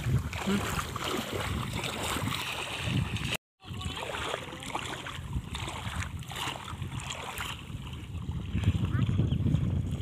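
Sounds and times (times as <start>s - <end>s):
wind rumbling on microphone: 0.0s - 4.1s, 4.9s - 10.0s
net dragged through water: 0.0s - 10.0s
water splashing around legs: 0.0s - 10.0s.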